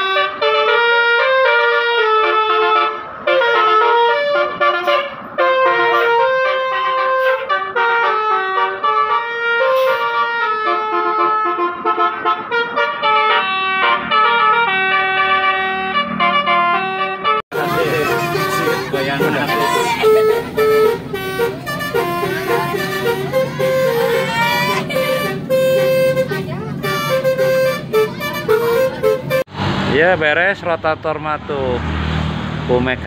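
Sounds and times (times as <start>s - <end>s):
multi-tone bus horn melody: 0.0s - 29.5s.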